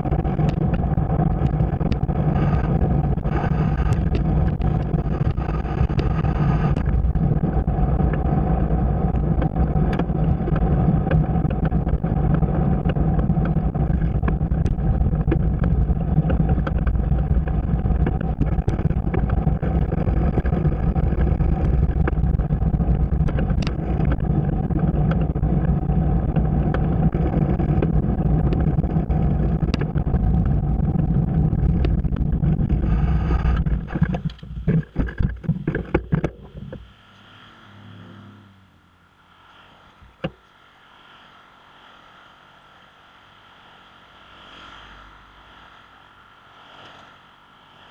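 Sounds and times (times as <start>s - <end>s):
bike running with low rumble: 0.0s - 47.9s.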